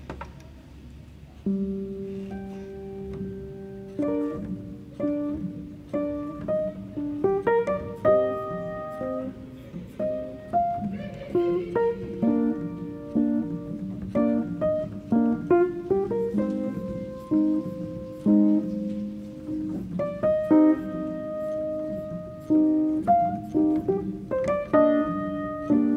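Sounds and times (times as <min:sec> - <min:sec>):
plucked guitar melody: 0:01.4 - 0:25.9.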